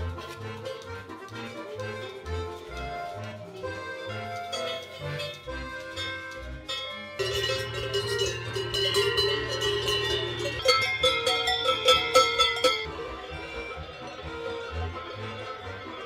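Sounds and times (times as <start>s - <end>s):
background music: 0.0s - 16.0s
cowbells clanging: 0.2s - 16.0s.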